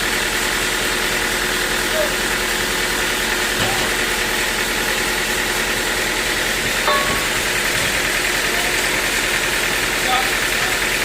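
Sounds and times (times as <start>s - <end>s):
sawmill machinery hum: 0.0s - 11.0s.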